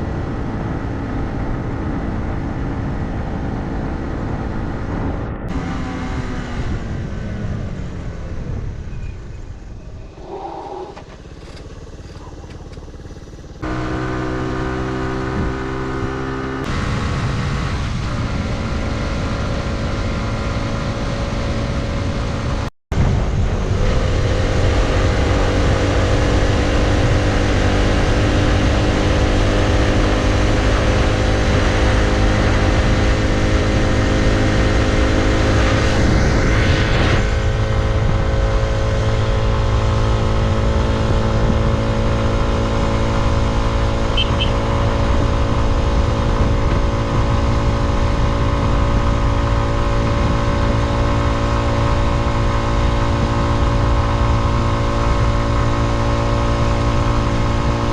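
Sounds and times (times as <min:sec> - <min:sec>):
small motorcycle engine running: 0:09.6 - 0:22.4, 0:23.4 - 0:57.9.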